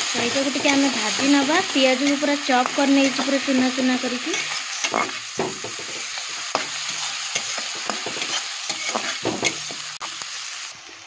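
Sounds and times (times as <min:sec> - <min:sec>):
onions sizzling in oil: 0:00.0 - 0:11.0
spatula scraping pan: 0:00.2 - 0:10.1.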